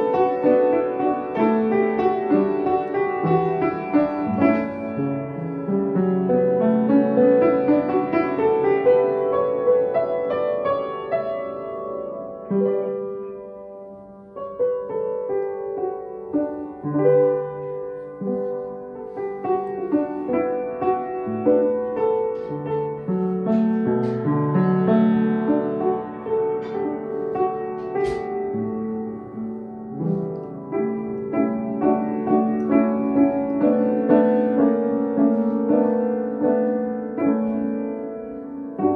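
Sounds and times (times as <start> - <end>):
solo piano melody: 0.0 - 38.9.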